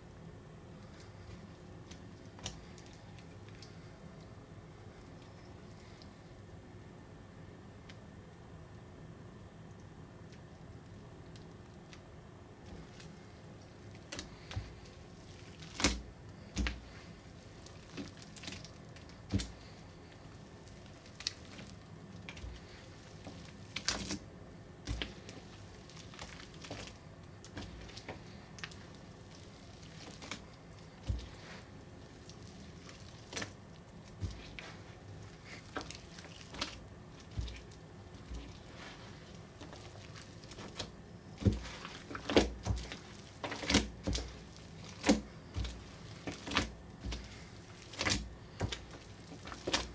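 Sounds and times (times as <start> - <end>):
wet slime squelching: 0.8 - 6.2, 10.3 - 49.9.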